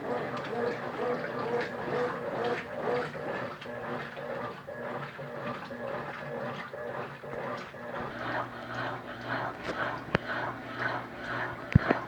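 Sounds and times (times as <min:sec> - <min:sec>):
washing machine running: 0:00.0 - 0:12.0.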